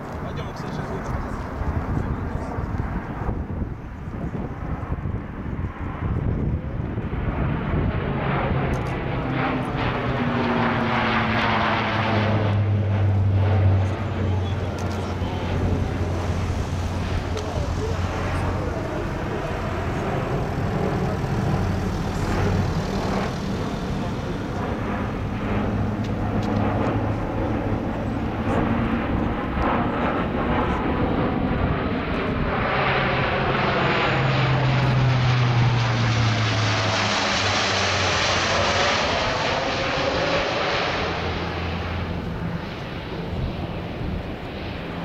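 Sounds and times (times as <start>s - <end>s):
turboprop aircraft droning overhead: 0.0s - 45.0s.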